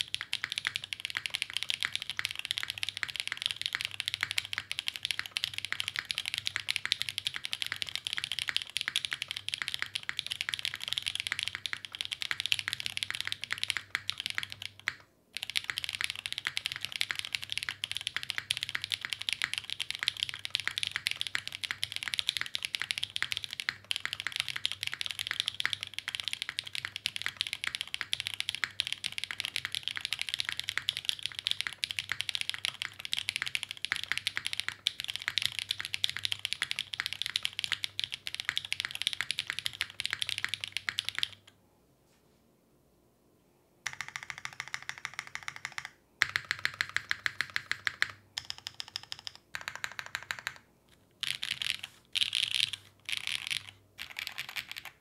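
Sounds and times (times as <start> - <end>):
mechanical keyboard typing clacks: 0.0 - 41.5, 43.9 - 50.6, 51.2 - 55.0.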